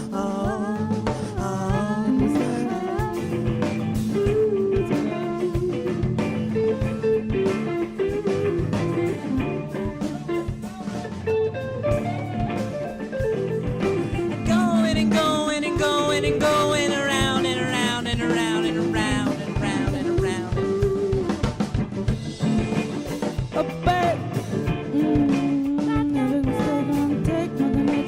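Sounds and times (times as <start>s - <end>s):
drum kit steady beat: 0.0s - 28.0s
guitar melody: 0.0s - 28.0s.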